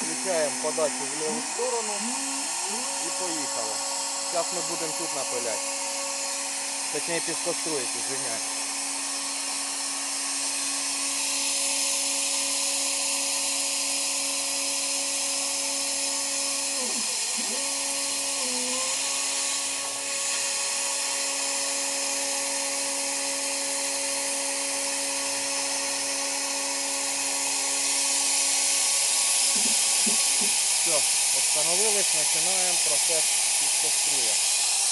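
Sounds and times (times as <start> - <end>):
electric motor hum: 0.0 - 34.9.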